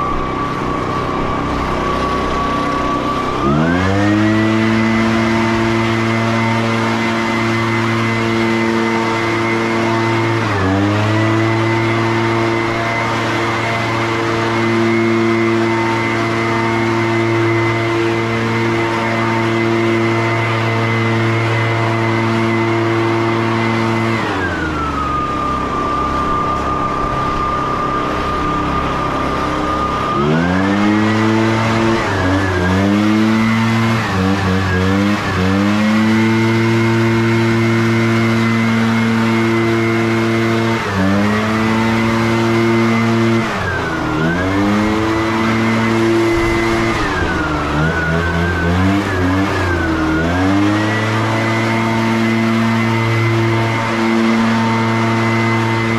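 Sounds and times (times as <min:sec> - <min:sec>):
leaf blower revving: 0:00.0 - 0:55.9.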